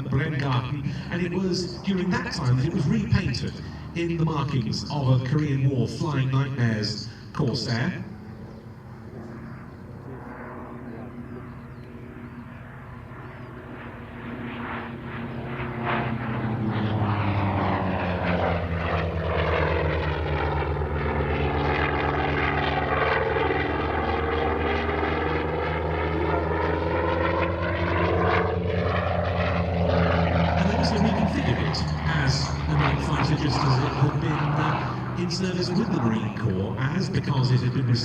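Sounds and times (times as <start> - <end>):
propeller aircraft engine passing: 0.0 - 38.0.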